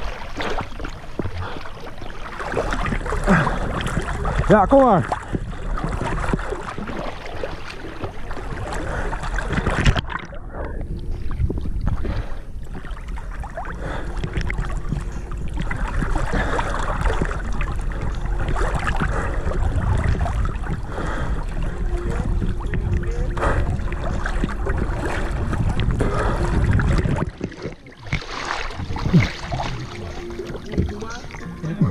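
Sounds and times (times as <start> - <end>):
waves lapping and splashing: 0.0 - 31.9
wind rumbling on microphone: 0.0 - 31.9.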